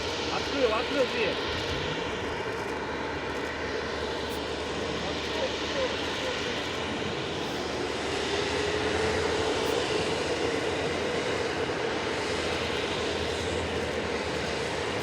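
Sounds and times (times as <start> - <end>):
aircraft turbine engine: 0.0 - 15.0.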